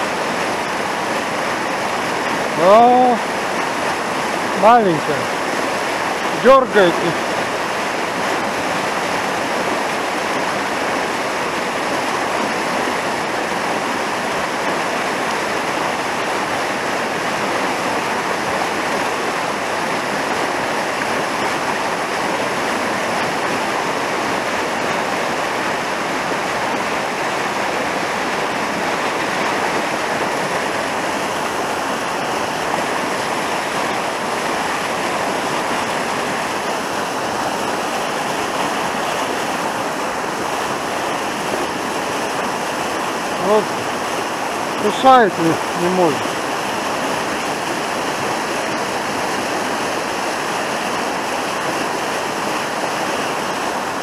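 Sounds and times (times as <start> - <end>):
river rushing over rapids: 0.0 - 54.0.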